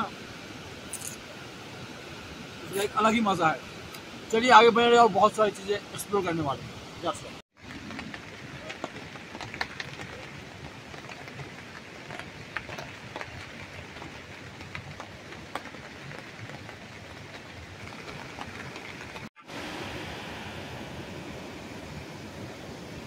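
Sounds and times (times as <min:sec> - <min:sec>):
rain falling: 0:00.0 - 0:23.0
steady rushing noise: 0:00.0 - 0:23.0.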